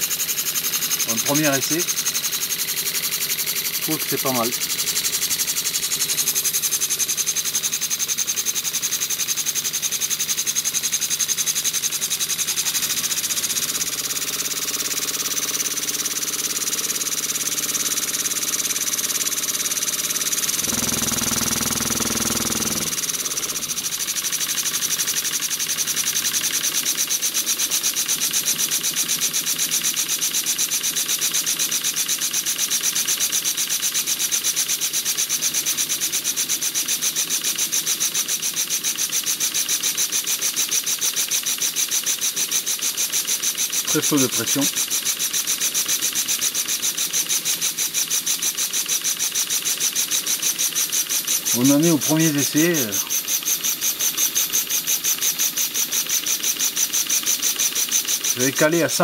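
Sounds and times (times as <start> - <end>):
model steam engine pulsing hiss: 0.0 - 7.6, 8.7 - 59.0.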